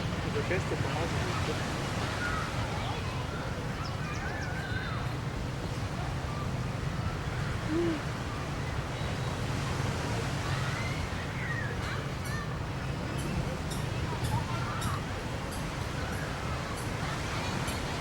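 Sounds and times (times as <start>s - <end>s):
sea surf: 0.0s - 18.0s
wind: 0.0s - 18.0s.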